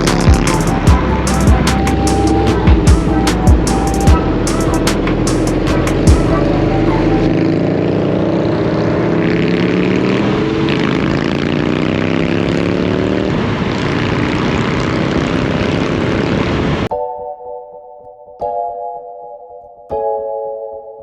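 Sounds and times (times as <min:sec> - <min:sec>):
vehicle engine accelerating: 0:00.0 - 0:16.9.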